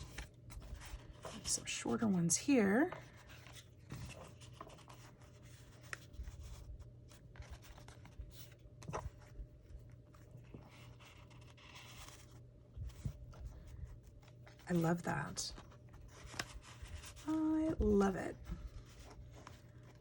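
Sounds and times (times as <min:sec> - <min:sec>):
paper rustling and scraping: 0:00.0 - 0:20.0.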